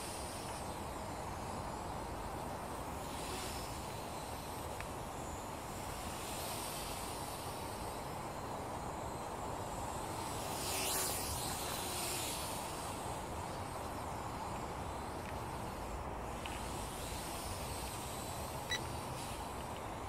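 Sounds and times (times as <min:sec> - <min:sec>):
steady hiss: 0:00.0 - 0:20.0
toy quadcopter motors buzzing: 0:00.0 - 0:20.0.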